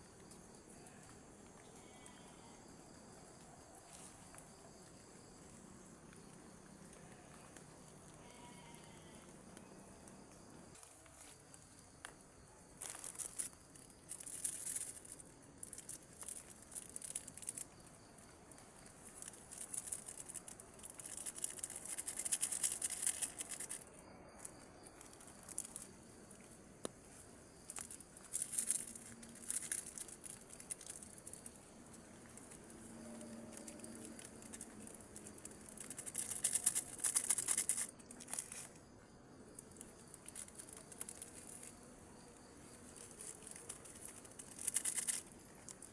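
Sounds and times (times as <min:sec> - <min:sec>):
faint steady background noise: 0:00.0 - 0:45.9
rustling and crinkling: 0:03.3 - 0:45.9.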